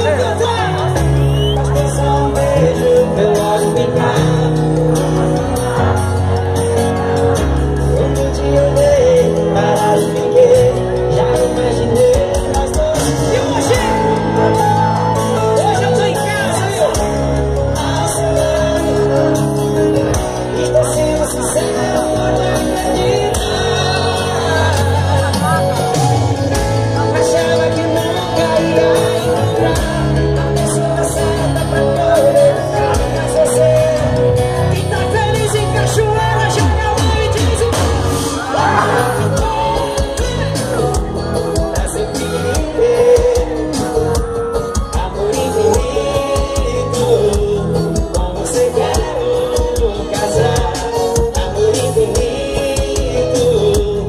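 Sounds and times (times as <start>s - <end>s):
live band playing: 0.0s - 54.0s
person singing: 0.0s - 54.0s.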